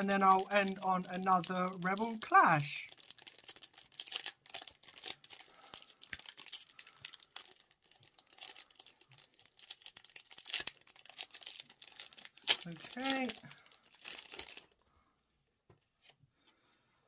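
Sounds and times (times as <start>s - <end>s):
foil wrapper crinkling and tearing: 0.0s - 14.8s.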